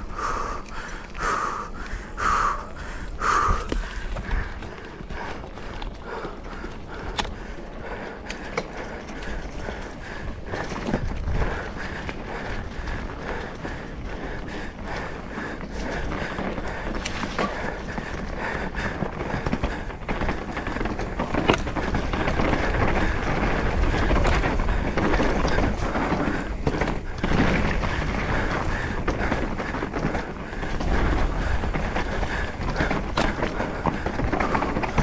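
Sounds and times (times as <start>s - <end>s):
bike rattling: 0.0s - 35.0s
wind noise on microphone: 1.9s - 35.0s.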